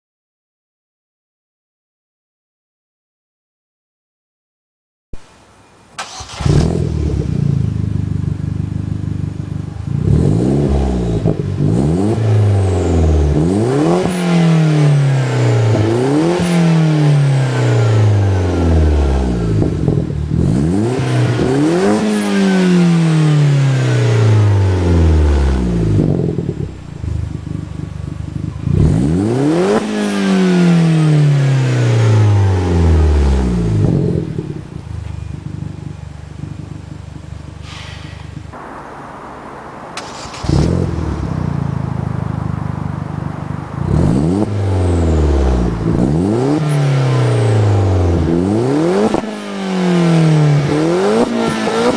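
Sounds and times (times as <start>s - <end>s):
car engine idling and revving: 6.0s - 51.9s.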